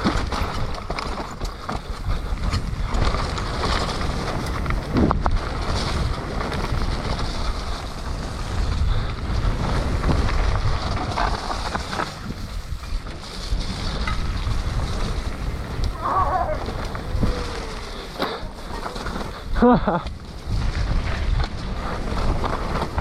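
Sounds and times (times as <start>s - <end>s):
bike knocks and rattles: 0.0s - 23.0s
bike tyre noise: 0.0s - 23.0s
wind rushing over microphone: 0.0s - 23.0s.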